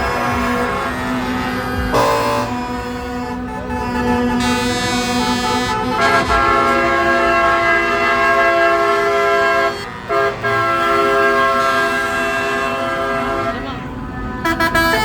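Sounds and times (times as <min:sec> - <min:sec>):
truck air horns chord: 0:00.0 - 0:15.0.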